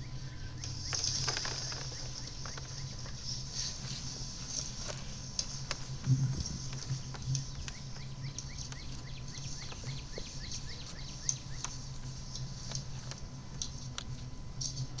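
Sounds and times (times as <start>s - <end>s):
steady low hum: 0.0s - 15.0s
light clicks and crackles: 0.6s - 15.0s.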